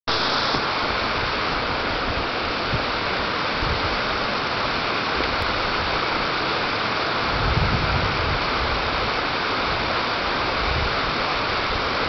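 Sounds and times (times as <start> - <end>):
river water rushing over rocks: 0.1 - 12.0.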